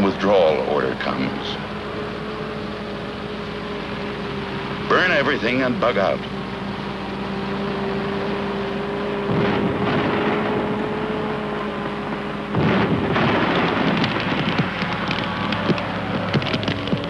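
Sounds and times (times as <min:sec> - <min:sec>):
fire crackling and popping: 0:00.0 - 0:17.0
fire roaring: 0:00.0 - 0:17.0.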